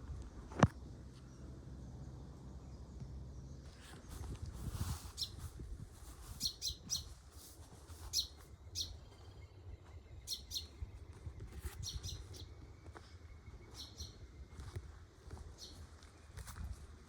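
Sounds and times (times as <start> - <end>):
low outdoor rumble: 0.0 - 17.0
small birds chirping: 0.9 - 17.0.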